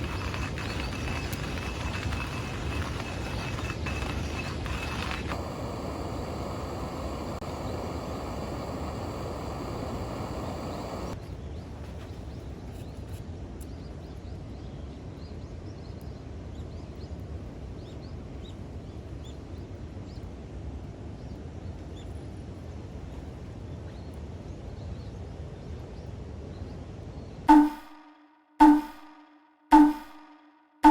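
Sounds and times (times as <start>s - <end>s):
outdoor ambient noise: 0.0s - 30.9s.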